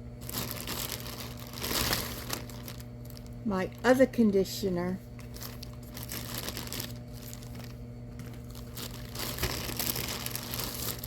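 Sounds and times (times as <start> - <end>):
plastic bag crinkling: 0.0 - 4.1, 5.1 - 11.0
steady low hum: 0.0 - 11.0.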